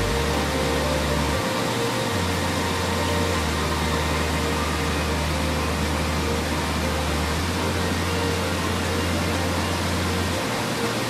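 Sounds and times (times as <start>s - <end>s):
soft relaxation music: 0.0s - 11.0s
waterfall rushing: 0.0s - 11.0s.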